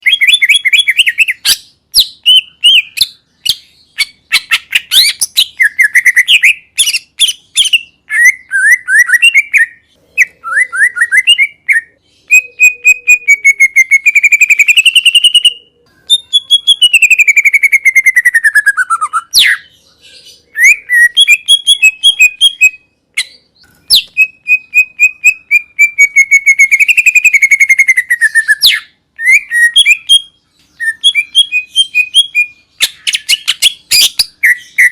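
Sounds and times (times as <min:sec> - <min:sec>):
bird singing chirps and trills: 0:00.0 - 0:34.9.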